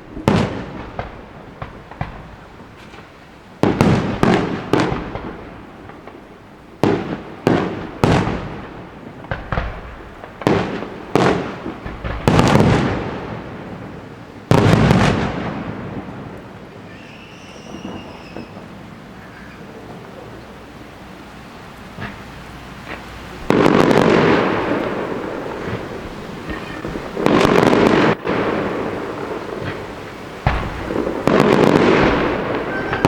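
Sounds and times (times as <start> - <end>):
fireworks bangs echoing: 0.0 - 33.0.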